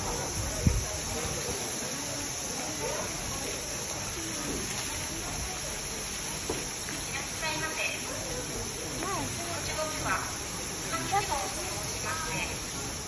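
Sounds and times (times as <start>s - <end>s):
faint voices: 0.0s - 13.0s
geyser hissing rush of water: 0.0s - 13.0s.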